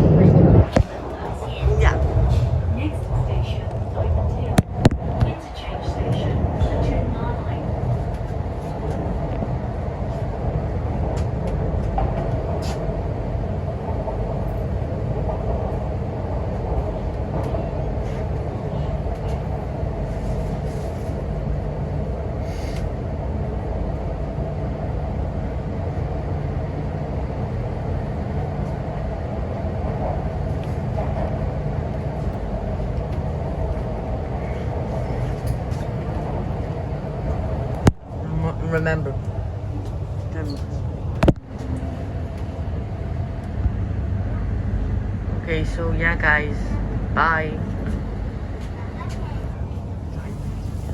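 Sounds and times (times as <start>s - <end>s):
train wheels rumbling: 0.0s - 50.9s.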